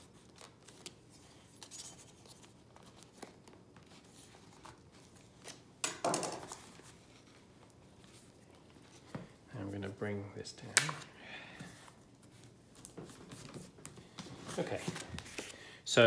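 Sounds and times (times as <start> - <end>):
paper rustling: 0.0 - 5.7, 6.4 - 9.2, 10.8 - 15.6.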